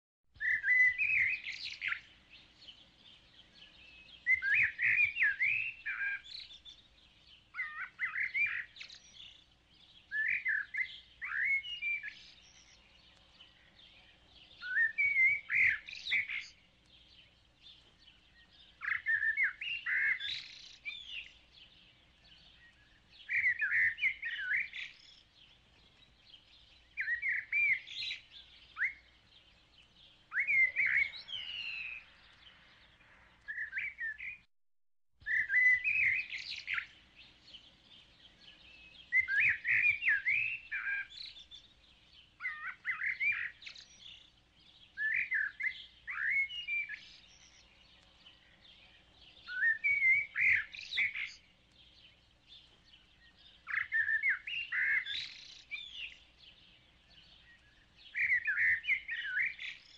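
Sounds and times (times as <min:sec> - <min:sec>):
songbird chirping and whistling: 0:00.4 - 0:34.5, 0:35.2 - 0:59.9.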